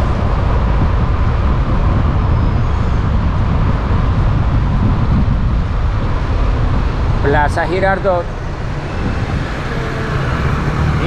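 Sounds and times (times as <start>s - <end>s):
road and traffic rumble: 0.0s - 11.0s.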